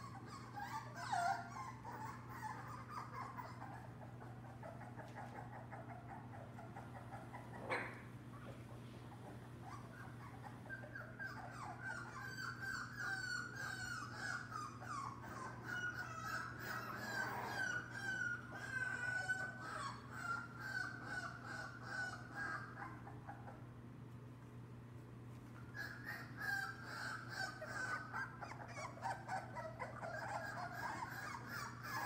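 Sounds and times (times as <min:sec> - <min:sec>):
puppies whining and yelping: 0:00.0 - 0:08.1, 0:09.1 - 0:23.8, 0:25.4 - 0:32.0.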